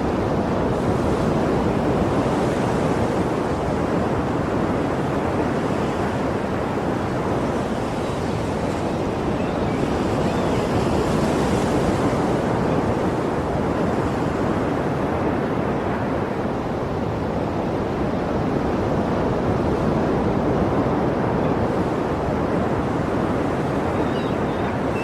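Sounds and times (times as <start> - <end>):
waves breaking on a shore: 0.0 - 25.0.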